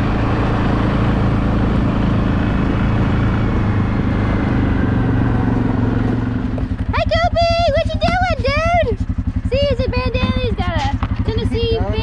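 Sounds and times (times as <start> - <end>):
atv engine running: 0.0 - 12.0
road noise: 0.0 - 12.0.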